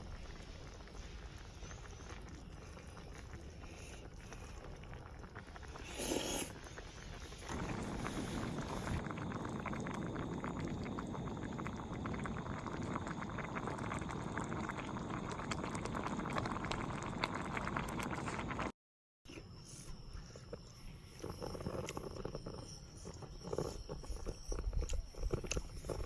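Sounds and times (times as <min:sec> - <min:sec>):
broth bubbling at a boil: 0:00.0 - 0:18.8, 0:20.4 - 0:26.0.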